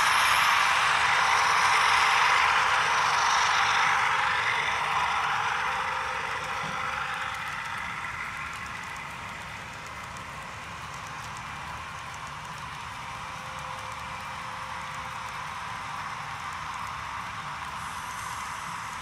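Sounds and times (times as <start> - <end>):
metal wheels rolling on track: 0.0 - 19.0
model train motors hissing: 0.0 - 19.0.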